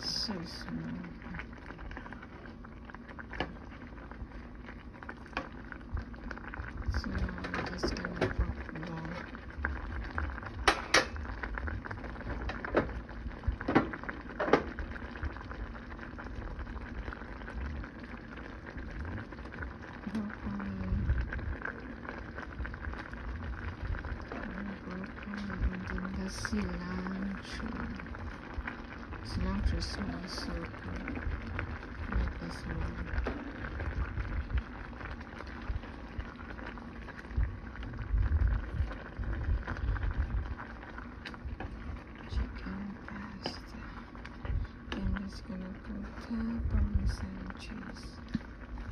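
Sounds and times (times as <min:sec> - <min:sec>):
sauce bubbling in a pan: 0:00.0 - 0:48.9.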